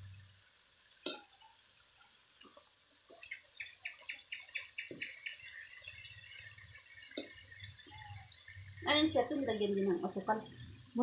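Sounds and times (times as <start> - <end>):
beef sizzling in sauce: 0.0 - 11.0.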